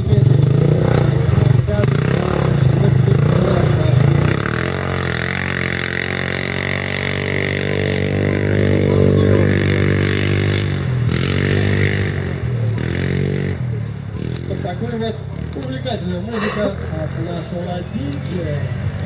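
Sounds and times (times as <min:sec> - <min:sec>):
quad bike engine droning: 0:00.0 - 0:19.0.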